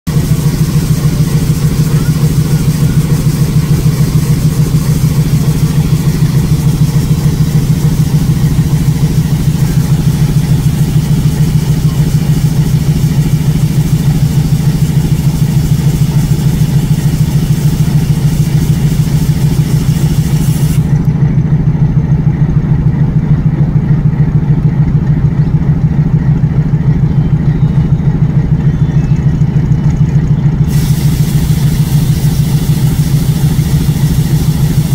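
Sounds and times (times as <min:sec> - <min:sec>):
diesel locomotive idling: 0:00.0 - 0:34.9.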